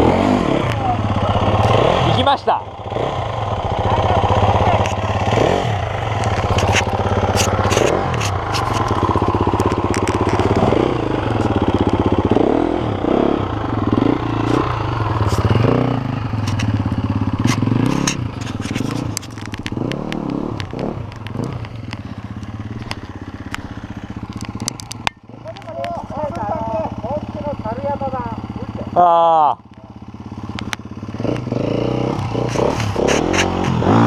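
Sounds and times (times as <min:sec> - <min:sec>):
dirt bike engine idling: 0:00.0 - 0:34.0
dirt bike engine revving: 0:00.0 - 0:34.0.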